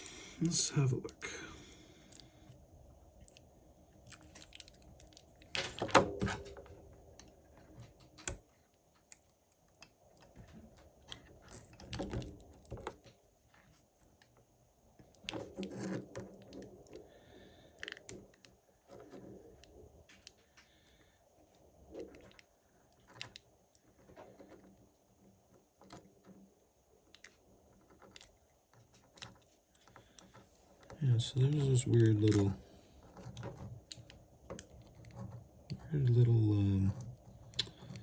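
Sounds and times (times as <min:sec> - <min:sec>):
small parts clicking and rustling: 0:00.0 - 0:38.0.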